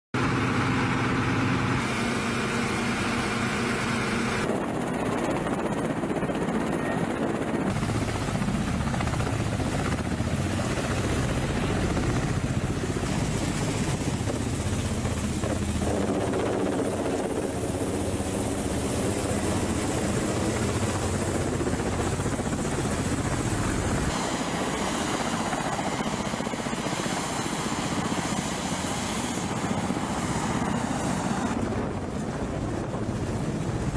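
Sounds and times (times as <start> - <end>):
helicopter rotor noise: 0.2 - 33.9
turbine engine tones: 0.2 - 33.9.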